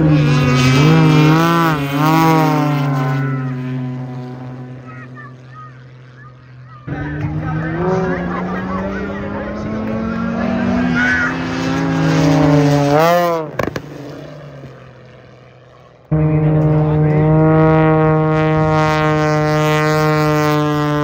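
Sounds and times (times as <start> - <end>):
propeller aircraft flying past: 0.0 - 21.0
steady engine drone: 0.0 - 21.0.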